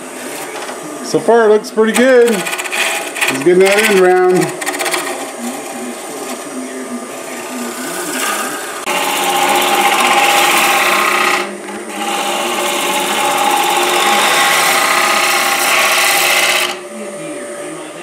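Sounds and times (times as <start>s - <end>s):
turning tool scraping wood: 0.0s - 1.2s, 1.8s - 16.8s
lathe humming: 0.0s - 18.0s.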